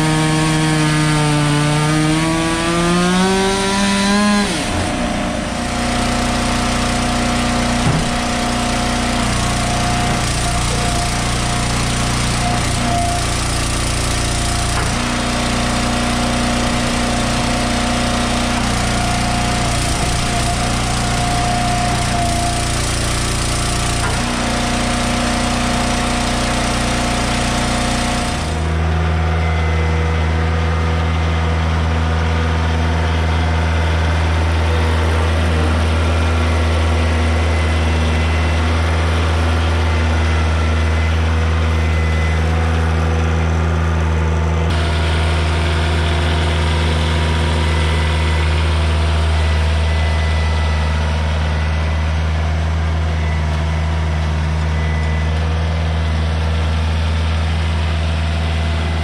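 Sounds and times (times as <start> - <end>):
log splitter engine running: 0.0 - 59.0
diesel tractor engine humming: 3.2 - 59.0.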